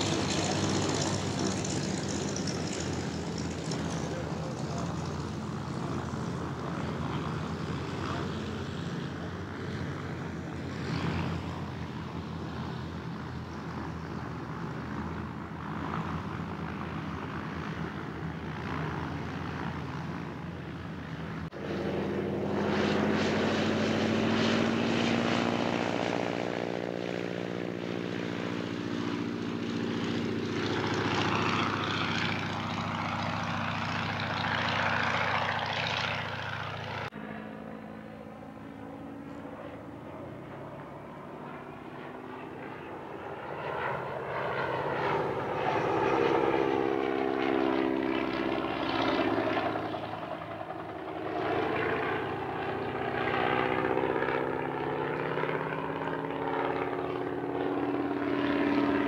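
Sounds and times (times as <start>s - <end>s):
propeller plane engine running: 0.0s - 59.0s.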